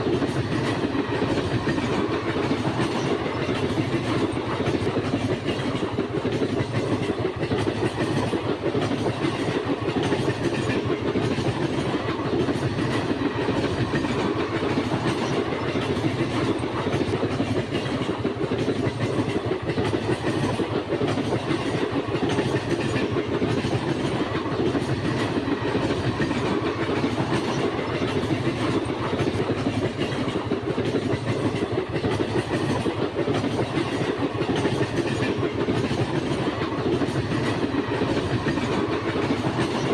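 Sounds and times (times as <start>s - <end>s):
train wheels running on rails: 0.0s - 39.9s.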